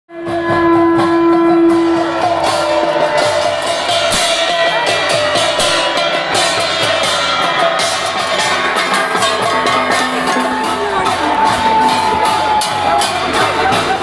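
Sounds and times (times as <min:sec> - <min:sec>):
drums and cymbals beating: 0:00.1 - 0:14.0
live festival music: 0:00.1 - 0:14.0
strong held note: 0:00.1 - 0:14.0.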